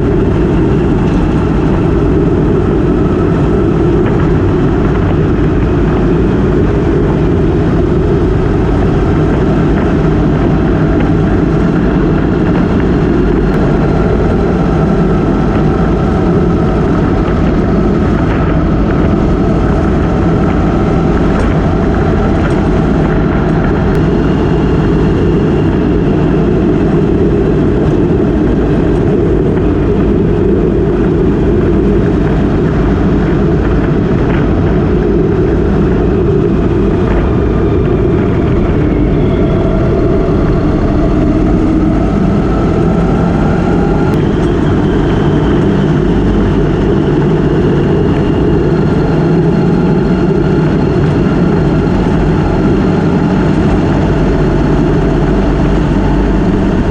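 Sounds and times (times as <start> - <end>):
motorcycle engine cruising: 0.0 - 56.9
wind rush: 0.0 - 56.9.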